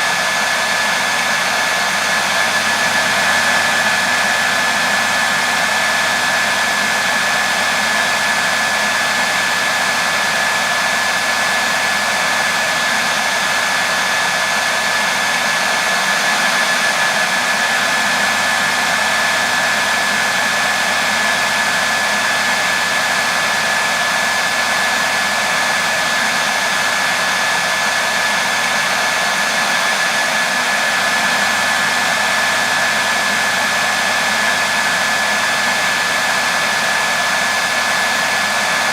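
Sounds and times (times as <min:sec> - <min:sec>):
hair dryer hiss and whine: 0:00.0 - 0:38.9.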